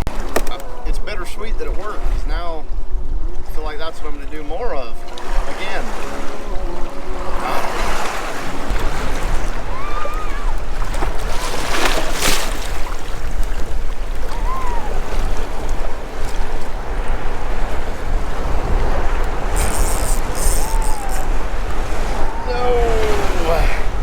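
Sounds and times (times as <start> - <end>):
water lapping at kayak: 0.0 - 24.0
wind rumbling on microphone: 0.0 - 24.0.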